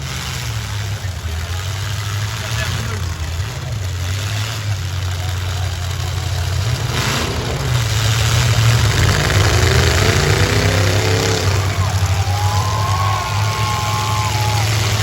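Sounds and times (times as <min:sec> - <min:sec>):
car engines running loudly: 0:00.0 - 0:15.0
engine revving up: 0:00.0 - 0:15.0.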